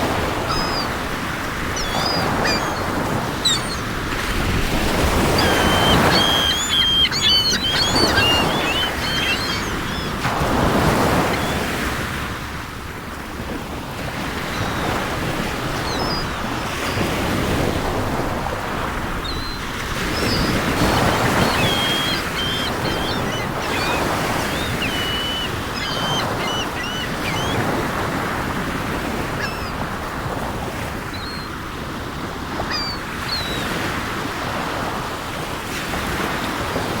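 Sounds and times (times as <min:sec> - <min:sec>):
seagulls calling: 0:00.0 - 0:12.6, 0:14.0 - 0:34.9
sea waves washing in: 0:00.0 - 0:37.0.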